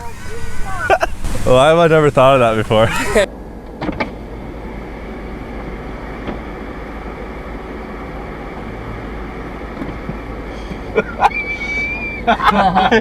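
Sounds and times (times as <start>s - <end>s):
vehicle rumble in motion: 0.0s - 13.0s.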